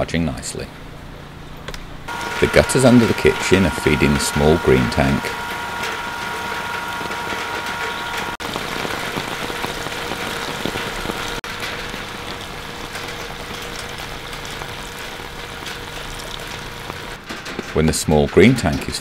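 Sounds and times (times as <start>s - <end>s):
generator engine hum: 1.3s - 17.7s
rain on metal gutters: 2.1s - 19.0s.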